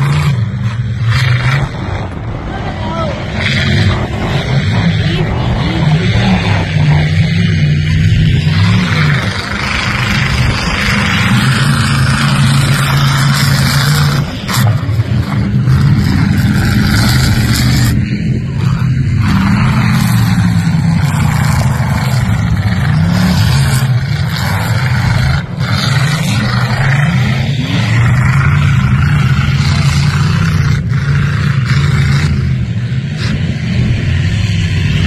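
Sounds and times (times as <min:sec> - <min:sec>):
race car engines revving: 0:00.0 - 0:35.0.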